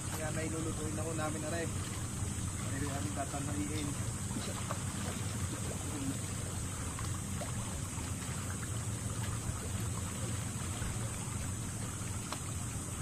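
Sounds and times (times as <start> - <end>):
low steady hum: 0.0 - 13.0
small waves lapping on rocks: 0.0 - 13.0.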